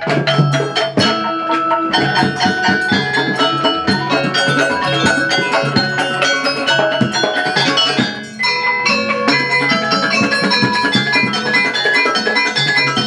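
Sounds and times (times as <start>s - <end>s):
hand drum: 0.0s - 13.0s
metallophones struck with mallets: 0.0s - 13.0s.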